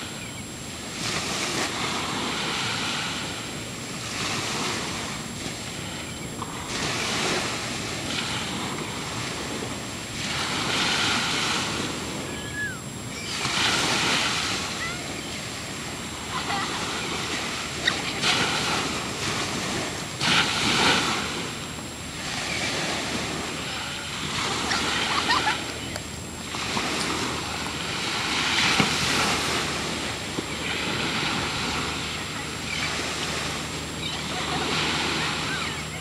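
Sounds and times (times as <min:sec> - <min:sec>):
ocean waves: 0:00.0 - 0:36.0.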